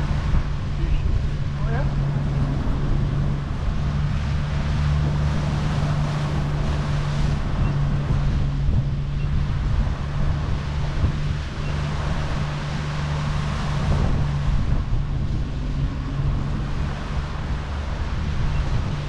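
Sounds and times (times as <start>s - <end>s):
outboard motor running: 0.0s - 19.0s
water rushing past hull: 0.0s - 19.0s
wind buffeting microphone: 0.0s - 19.0s.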